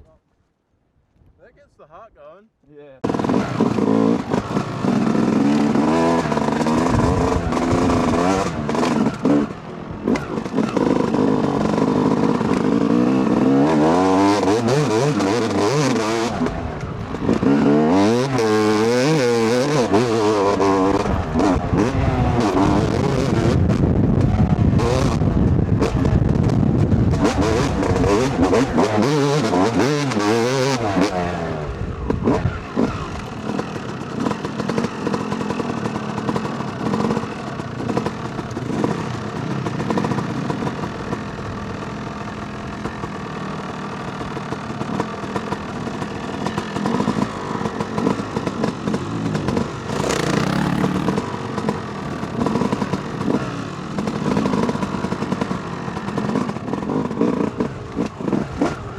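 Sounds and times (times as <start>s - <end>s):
two-stroke dirt bike engine revving: 3.0s - 58.9s.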